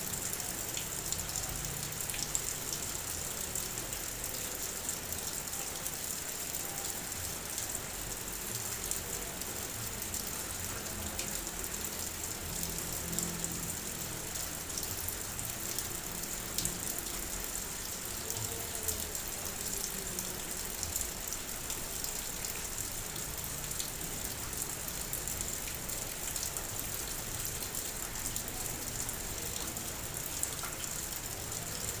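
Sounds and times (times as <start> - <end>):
heavy rain on car body: 0.0 - 32.0.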